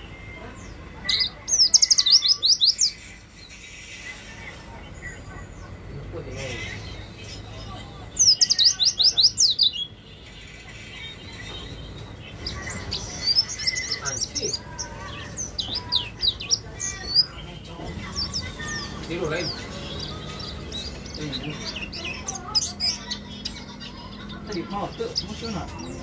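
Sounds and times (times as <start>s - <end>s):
small bird singing: 0.0s - 26.0s.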